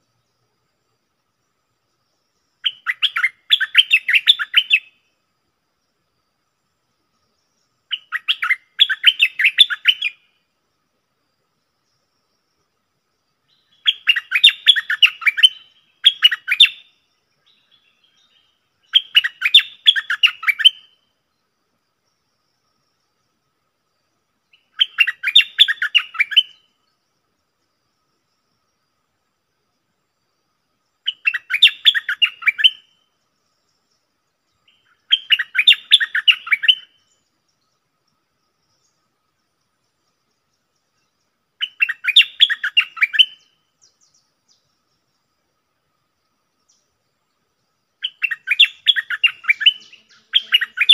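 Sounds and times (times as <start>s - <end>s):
bird singing: 0.0s - 50.9s.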